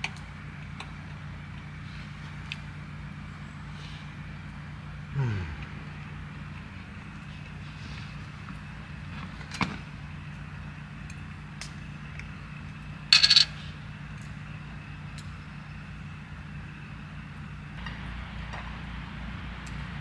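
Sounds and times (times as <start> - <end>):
steady low hum: 0.2 - 20.0.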